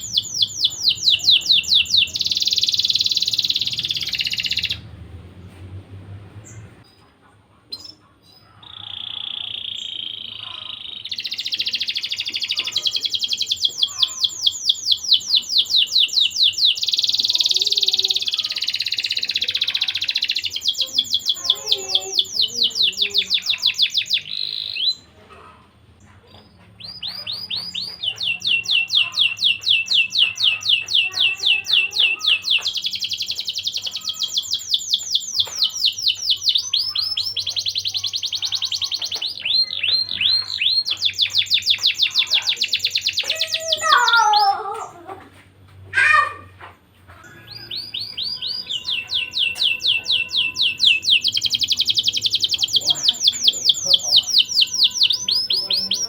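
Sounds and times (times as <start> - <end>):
canary singing high trills: 0.0 - 4.9, 7.8 - 25.1, 26.8 - 44.9, 47.3 - 56.0.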